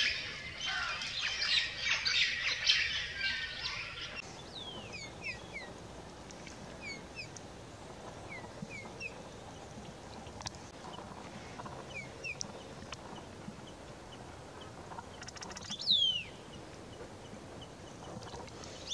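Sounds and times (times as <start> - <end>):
small birds chirping: 0.0 - 18.9
steady background noise: 0.0 - 18.9.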